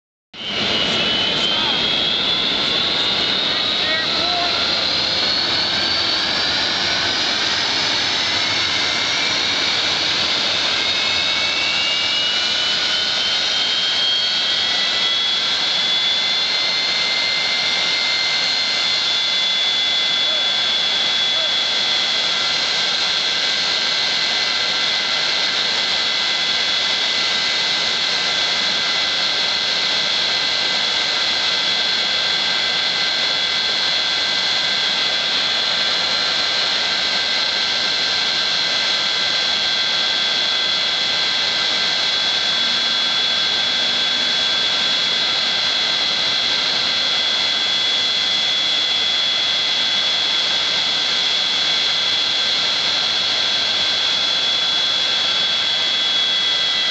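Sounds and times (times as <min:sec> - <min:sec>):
jet engines idling: 0:00.4 - 0:56.9.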